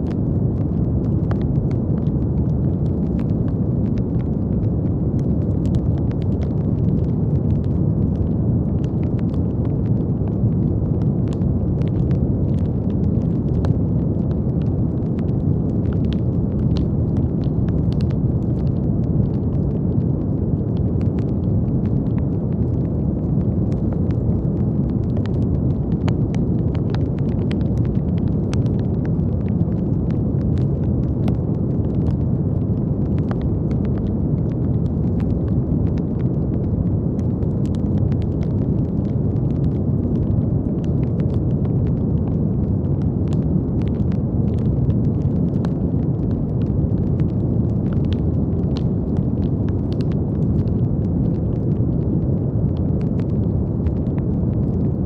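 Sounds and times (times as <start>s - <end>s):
brown noise hiss: 0.0s - 55.0s
faint small crackles: 0.0s - 55.0s.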